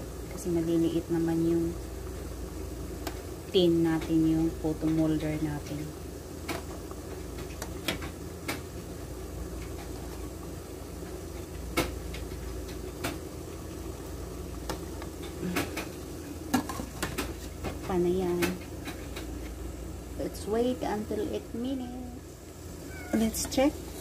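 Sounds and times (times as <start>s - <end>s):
water boiling: 0.0s - 24.0s.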